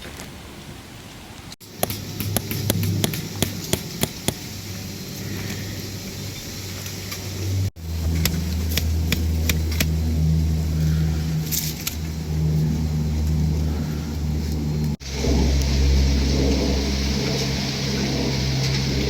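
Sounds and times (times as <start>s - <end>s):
vehicle engine droning: 1.6s - 19.0s.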